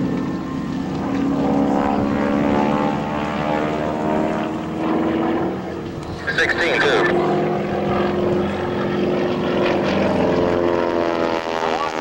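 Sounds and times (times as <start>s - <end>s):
propeller aircraft droning overhead: 0.0s - 12.0s.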